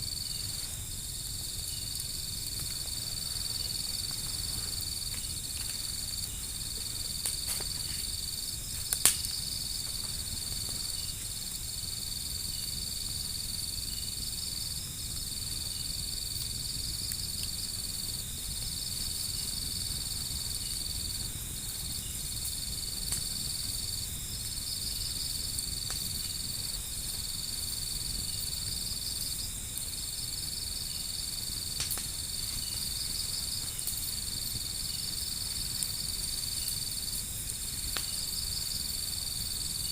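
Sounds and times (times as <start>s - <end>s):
crickets trilling: 0.0s - 39.9s
wood fire crackling: 0.0s - 39.9s.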